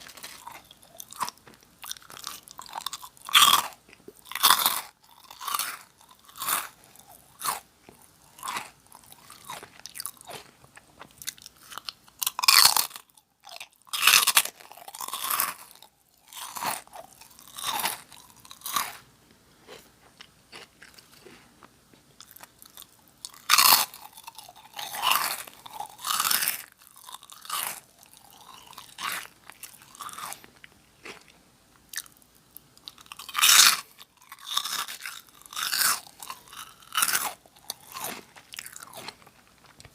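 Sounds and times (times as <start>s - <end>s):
crunching and chewing crackers: 0.0s - 39.9s.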